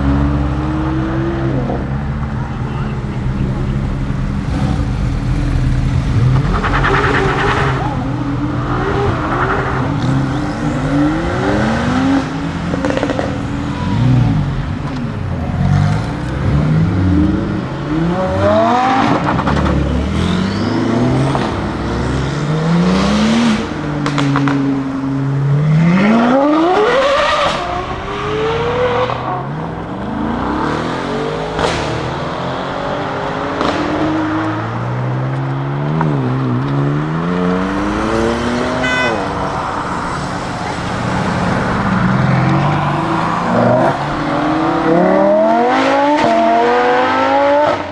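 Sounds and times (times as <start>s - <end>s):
sports car engine accelerating: 0.0s - 47.9s.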